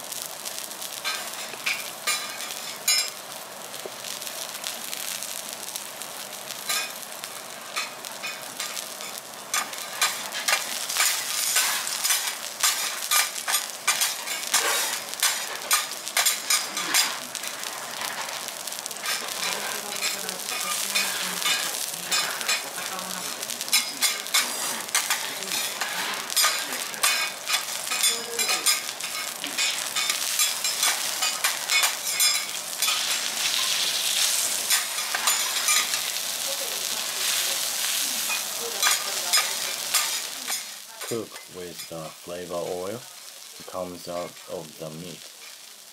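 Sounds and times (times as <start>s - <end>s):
beef sizzling on hotplate: 0.0s - 45.9s.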